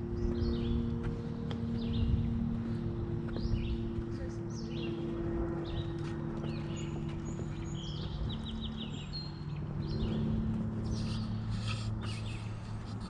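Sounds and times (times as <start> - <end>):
low steady hum: 0.0 - 13.0
songbirds chirping: 0.0 - 13.0.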